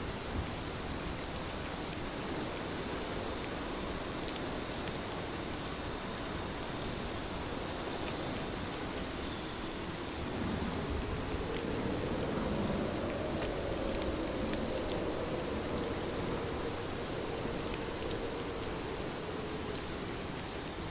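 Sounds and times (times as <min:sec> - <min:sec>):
heavy rain hissing: 0:00.0 - 0:20.9
rain drop ticks: 0:01.0 - 0:20.9.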